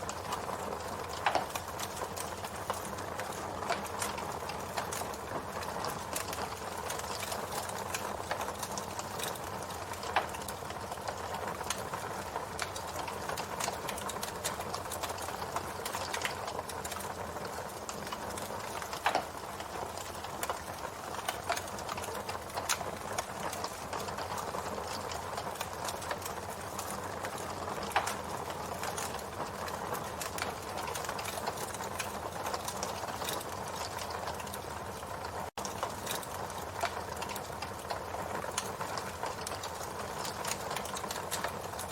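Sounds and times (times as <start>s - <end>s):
campfire crackling and hissing: 0.0s - 41.9s.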